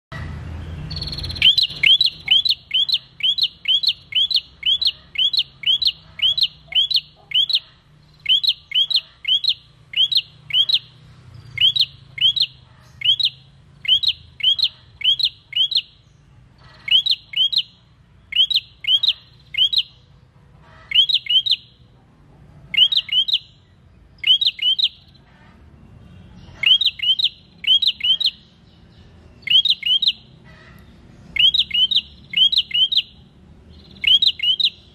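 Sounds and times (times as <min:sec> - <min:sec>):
bird singing high chirps: 0:00.6 - 0:20.2, 0:20.9 - 0:21.8, 0:22.7 - 0:25.2, 0:26.2 - 0:34.9.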